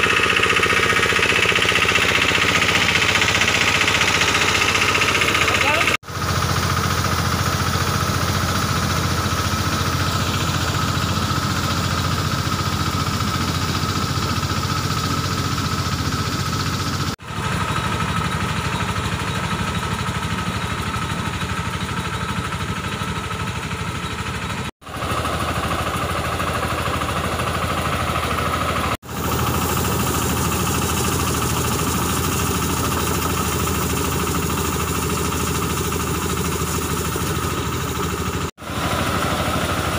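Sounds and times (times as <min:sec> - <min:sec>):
sprayer whine: 0:00.0 - 0:19.3, 0:24.8 - 0:39.9
tractor engine running: 0:00.0 - 0:39.9.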